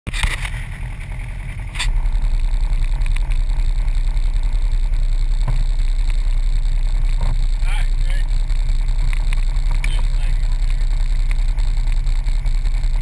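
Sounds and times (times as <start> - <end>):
engine running with low pulsing: 0.1 - 13.0.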